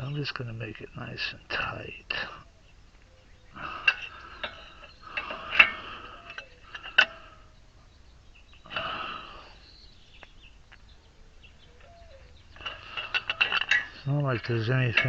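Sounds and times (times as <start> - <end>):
metal scraping and rustling: 0.0 - 15.0.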